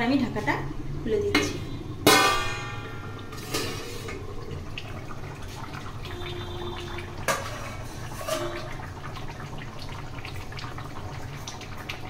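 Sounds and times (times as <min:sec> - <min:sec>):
curry bubbling: 0:00.0 - 0:12.0.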